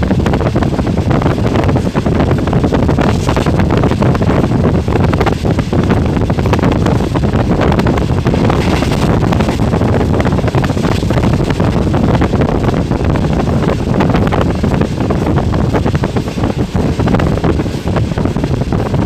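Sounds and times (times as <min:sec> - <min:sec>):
train rumble and clatter: 0:00.0 - 0:19.0
wind buffeting microphone: 0:00.0 - 0:19.0.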